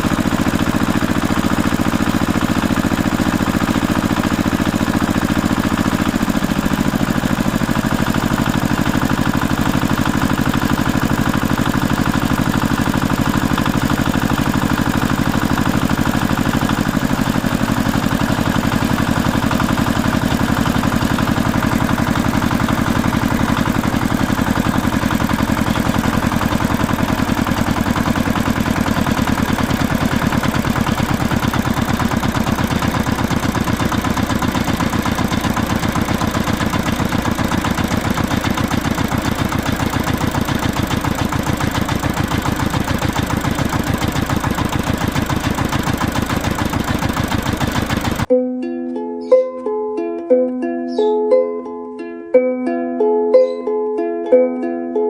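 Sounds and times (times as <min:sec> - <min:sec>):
motor running steadily: 0:00.0 - 0:48.3.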